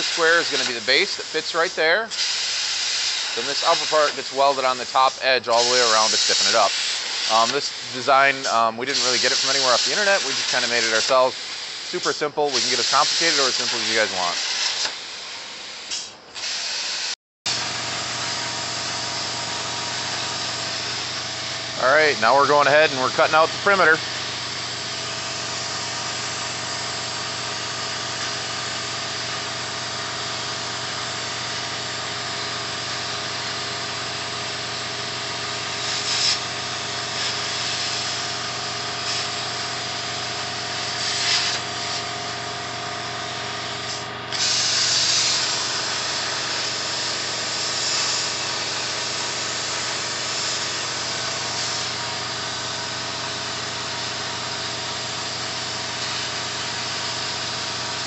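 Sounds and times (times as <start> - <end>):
plasma arc hissing: 0.0 - 58.0.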